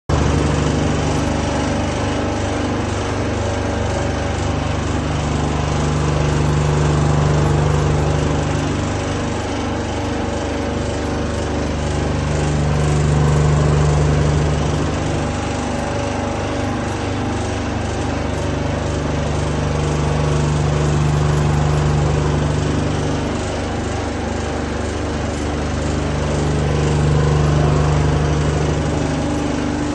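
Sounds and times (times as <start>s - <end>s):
industrial fan humming: 0.1s - 29.9s.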